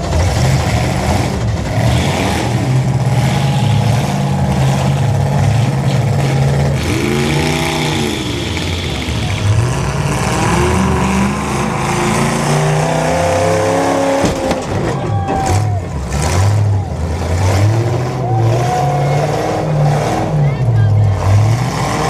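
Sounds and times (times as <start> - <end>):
engine revving: 0.0 - 14.8, 15.4 - 22.0
car engines running hard: 0.0 - 22.0.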